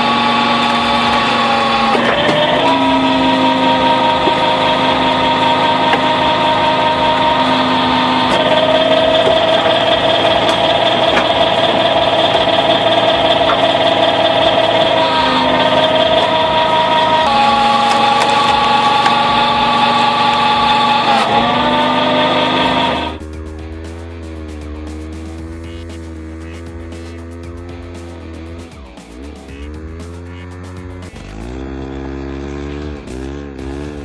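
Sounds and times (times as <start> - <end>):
log splitter motor running: 0.0 - 34.0.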